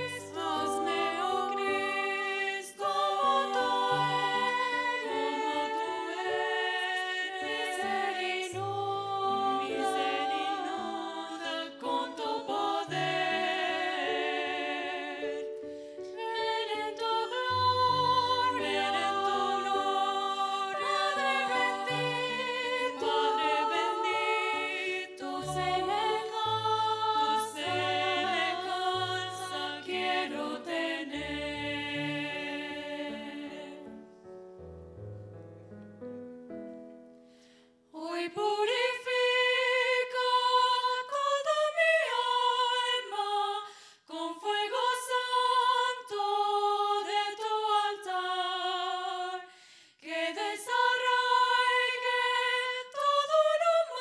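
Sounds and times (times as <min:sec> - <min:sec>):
voices singing a hymn in harmony: 0:00.0 - 0:34.4, 0:37.9 - 0:54.0.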